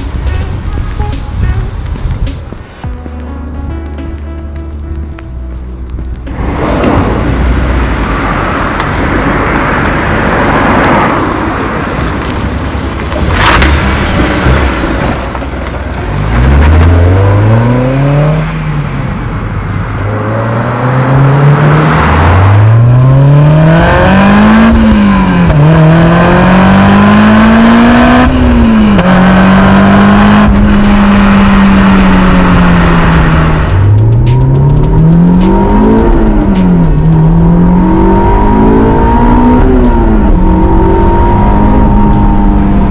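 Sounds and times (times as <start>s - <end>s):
car exhaust revving: 6.0s - 42.9s.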